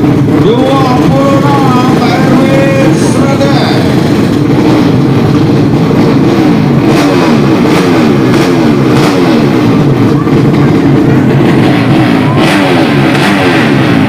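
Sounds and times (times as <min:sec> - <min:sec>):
motorcycle engines accelerating: 0:00.0 - 0:14.0.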